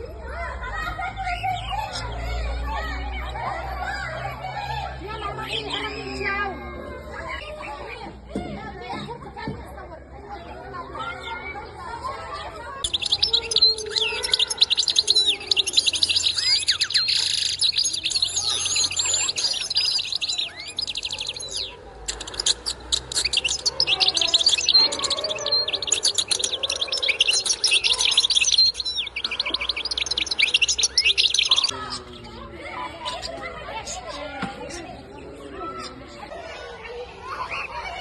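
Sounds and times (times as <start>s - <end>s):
small birds chirping and twittering: 0.0s - 38.0s.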